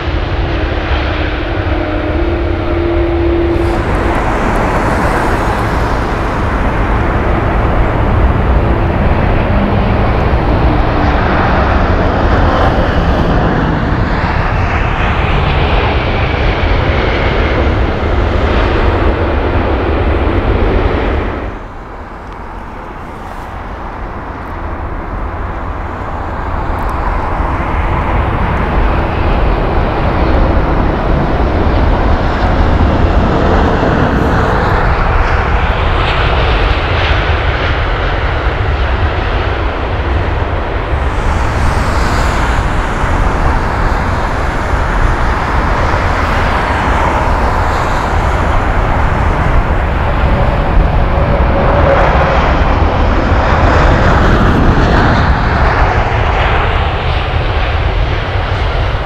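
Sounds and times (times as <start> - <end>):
jet airliner engines roaring: 0.0 - 59.0.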